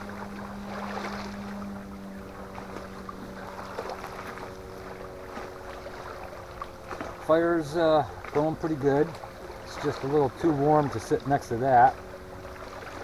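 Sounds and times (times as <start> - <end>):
motorboat engine droning: 0.0 - 13.0.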